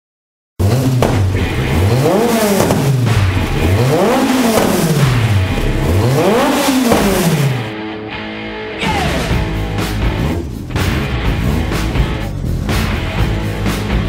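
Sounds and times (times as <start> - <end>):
engine revving and idling: 0.6 - 7.7, 9.3 - 14.0.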